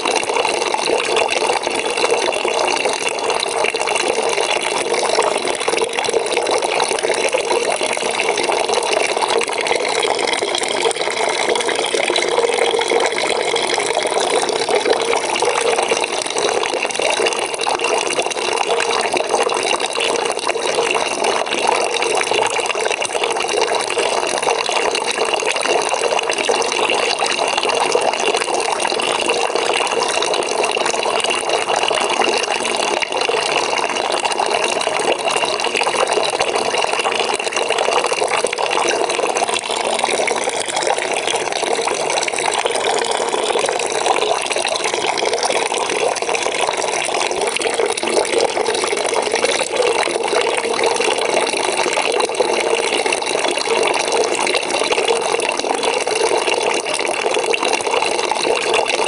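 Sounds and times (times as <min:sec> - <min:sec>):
tap water pouring into bucket: 0:00.0 - 0:59.0.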